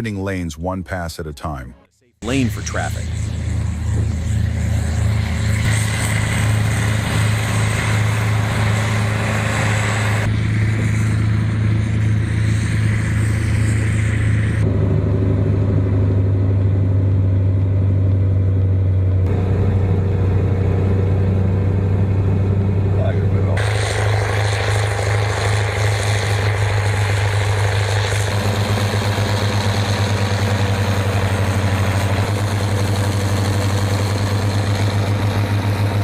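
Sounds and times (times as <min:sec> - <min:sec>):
heavy diesel engine running: 0:02.2 - 0:36.0.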